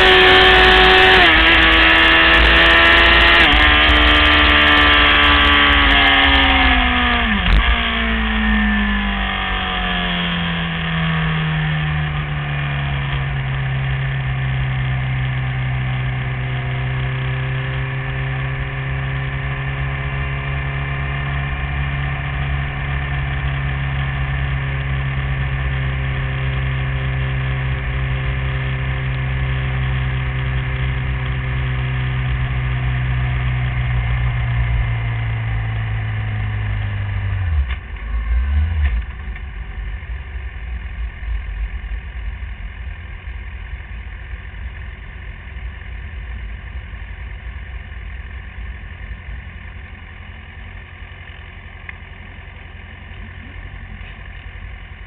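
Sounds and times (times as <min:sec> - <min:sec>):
motorcycle engine idling: 0:05.4 - 0:55.0.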